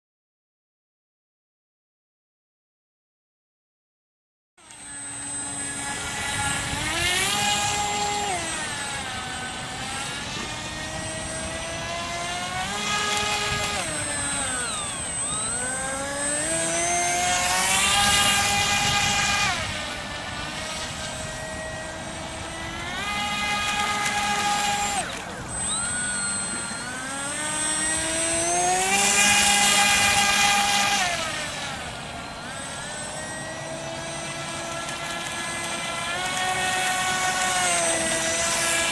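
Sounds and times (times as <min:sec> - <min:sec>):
model boat motor whining: 0:04.6 - 0:38.9.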